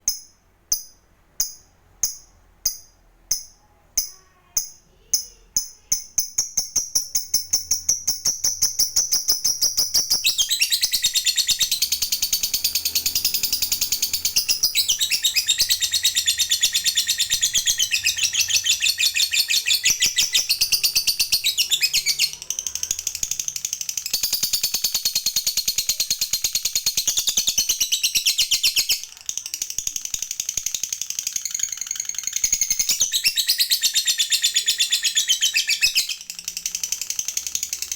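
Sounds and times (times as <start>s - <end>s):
lovebird chirping and trilling: 4.6s - 37.9s.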